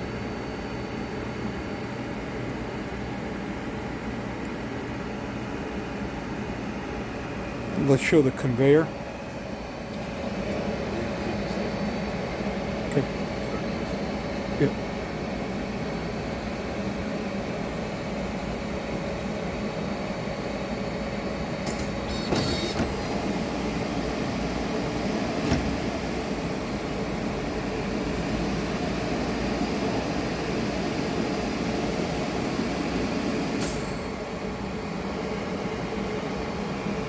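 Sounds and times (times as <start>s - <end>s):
conveyor mechanical hum: 0.0s - 37.0s.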